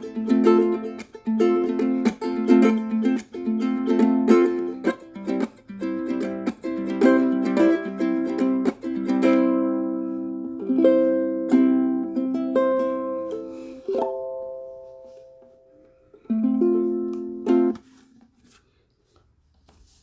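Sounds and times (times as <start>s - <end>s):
ukulele playing: 0.0s - 18.5s.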